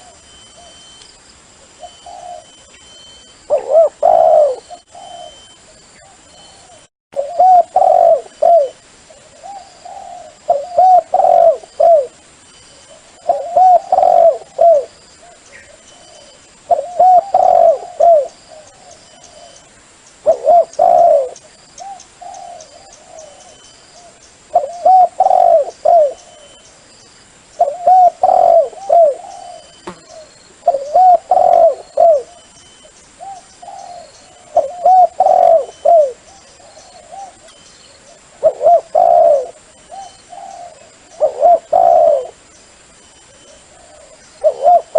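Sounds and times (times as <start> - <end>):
dove cooing: 1.8 - 12.2, 12.8 - 19.6, 20.2 - 26.6, 27.6 - 32.5, 33.2 - 42.4, 43.3 - 44.9.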